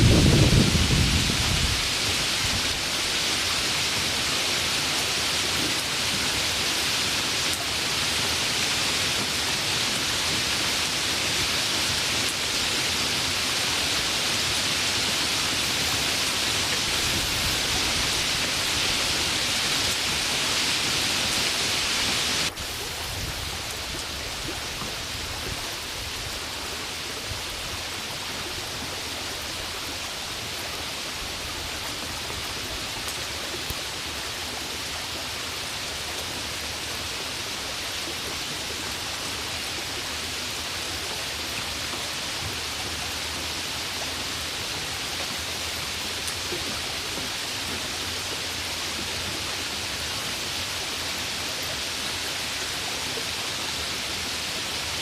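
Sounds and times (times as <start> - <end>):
falling rain: 0.0 - 55.0.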